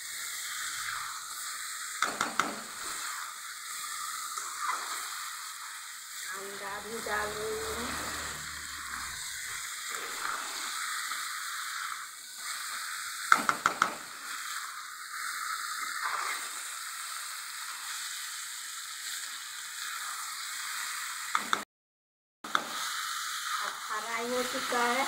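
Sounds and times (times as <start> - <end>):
food sizzling in oil: 0.0 - 21.6, 22.5 - 25.0.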